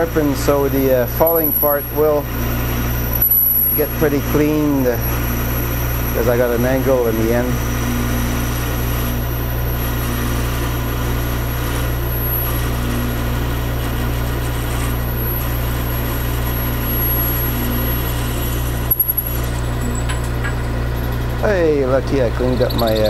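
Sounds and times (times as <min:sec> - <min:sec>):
faint high whine: 0:00.0 - 0:23.0
metal lathe running: 0:00.0 - 0:23.0.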